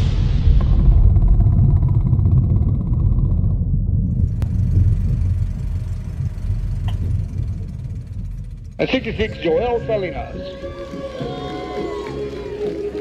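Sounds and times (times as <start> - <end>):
deep loud rumble: 0.0 - 11.2.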